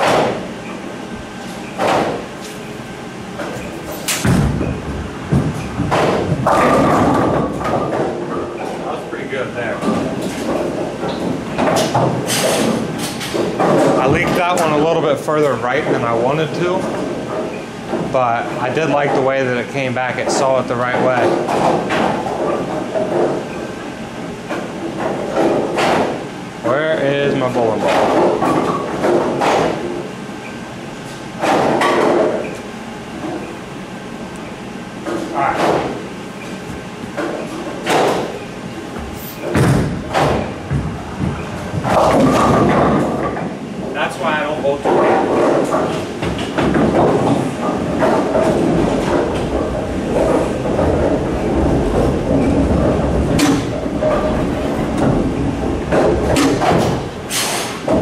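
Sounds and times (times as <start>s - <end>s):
bowling ball rumbling and knocking: 1.7s - 30.2s, 31.2s - 33.5s, 34.9s - 58.0s.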